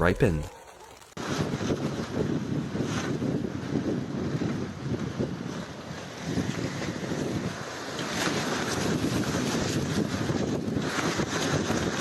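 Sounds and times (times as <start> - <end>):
wind buffeting microphone: 1.2 - 12.0.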